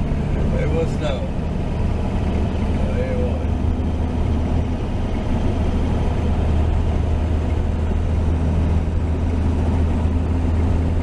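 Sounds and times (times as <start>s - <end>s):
pickup engine droning: 0.0s - 11.0s.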